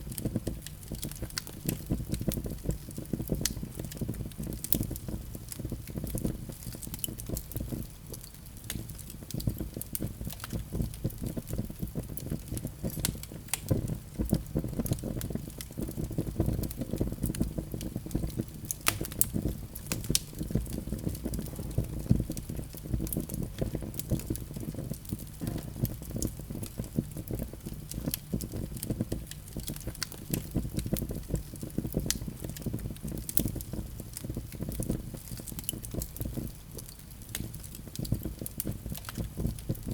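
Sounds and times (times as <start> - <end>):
fire crackles and pops: 0.0 - 39.9
fireplace flame rushing: 0.1 - 39.9.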